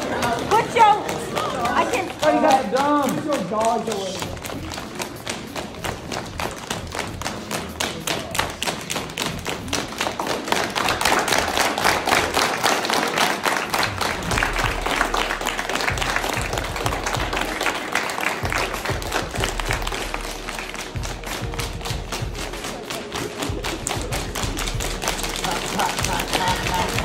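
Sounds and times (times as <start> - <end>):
group of people clapping: 0.0 - 27.0.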